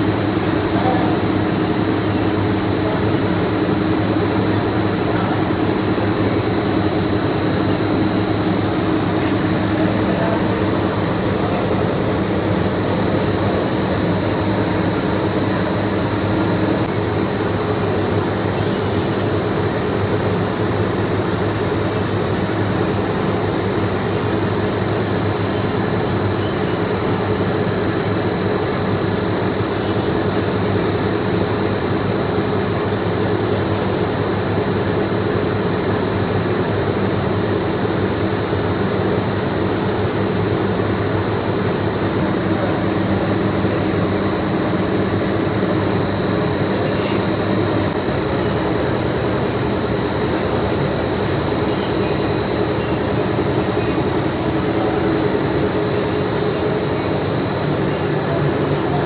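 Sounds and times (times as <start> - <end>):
factory machinery droning: 0.0 - 59.0.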